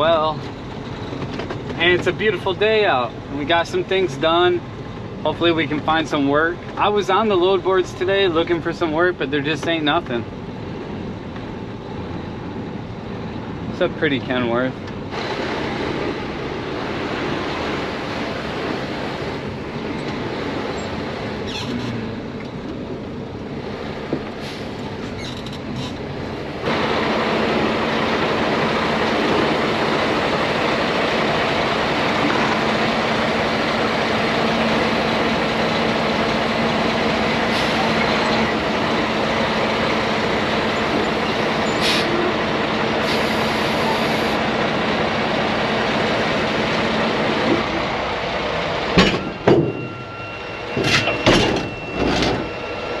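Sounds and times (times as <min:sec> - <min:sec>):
truck engine and road noise: 0:00.0 - 0:53.0.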